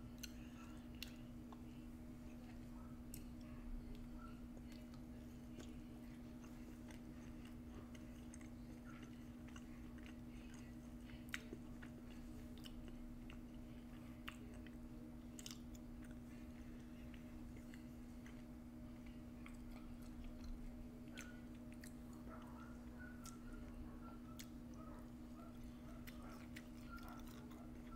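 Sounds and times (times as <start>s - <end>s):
close chewing with mouth clicks: 0.0s - 27.9s.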